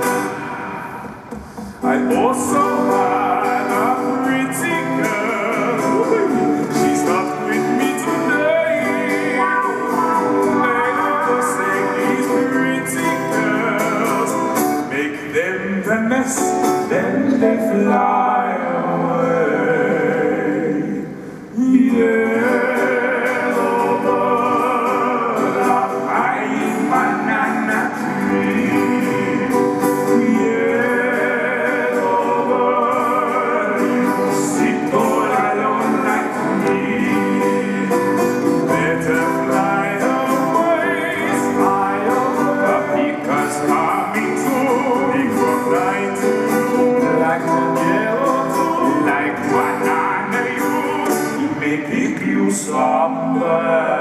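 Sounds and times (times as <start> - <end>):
acoustic guitar: 0.0 - 54.0
men singing in harmony: 0.0 - 54.0
strummed ukulele: 0.0 - 54.0.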